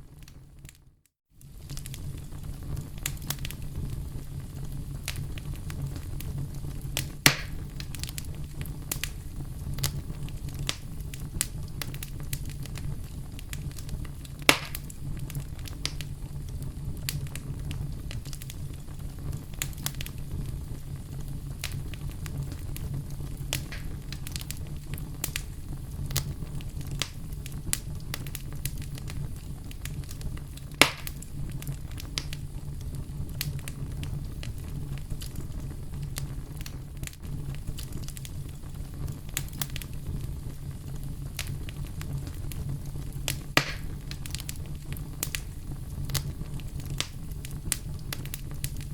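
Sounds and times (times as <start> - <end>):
campfire crackling: 1.4 - 48.9
sharp pops from fire: 1.4 - 48.9.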